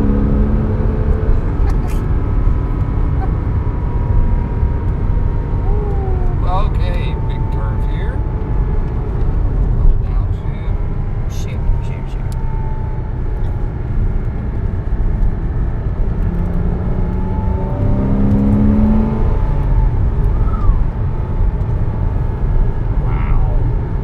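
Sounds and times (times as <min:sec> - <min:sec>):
car engine revving: 0:00.0 - 0:24.0
low road rumble: 0:00.0 - 0:24.0.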